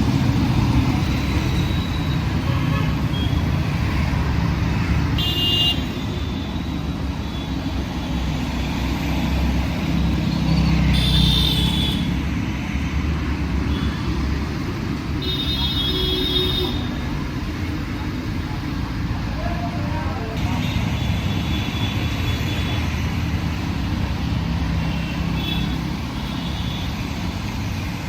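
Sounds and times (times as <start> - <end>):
traffic engines rumbling: 0.0 - 28.0.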